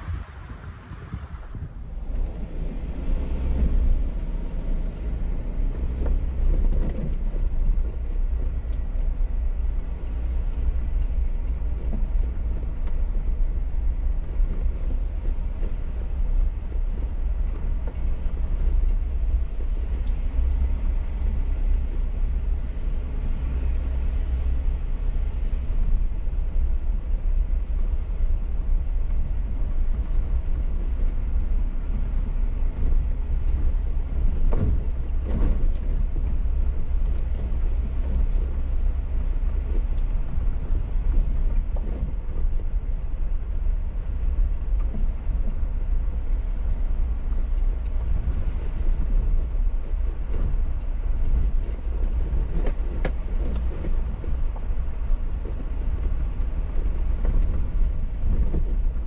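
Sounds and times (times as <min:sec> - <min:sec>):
engine and tyre rumble: 0:00.0 - 0:59.0.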